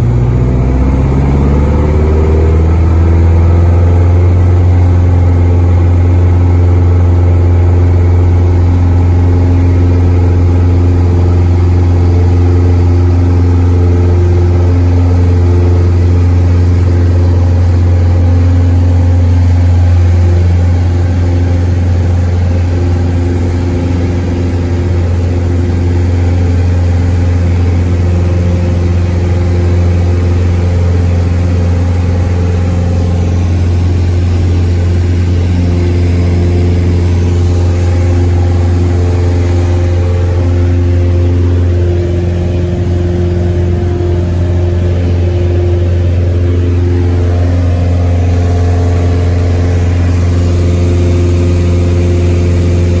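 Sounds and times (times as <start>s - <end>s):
airplane engine and propeller drone: 0.0s - 53.0s.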